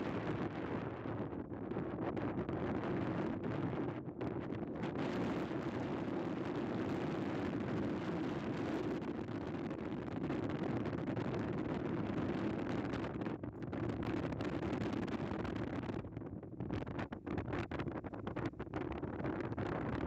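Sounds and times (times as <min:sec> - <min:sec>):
wind blowing across microphone: 0:00.0 - 0:20.0.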